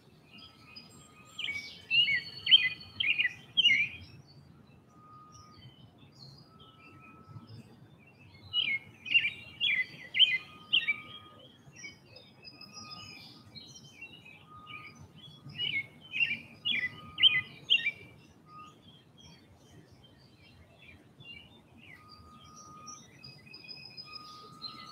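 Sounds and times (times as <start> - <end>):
songbirds chirping: 0.0 - 24.9.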